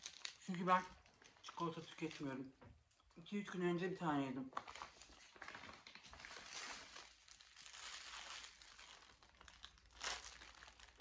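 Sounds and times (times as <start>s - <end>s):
plastic bag rustling: 0.0s - 2.5s, 4.5s - 11.0s
biscuit wrapper crinkling: 0.0s - 2.6s, 4.4s - 11.0s.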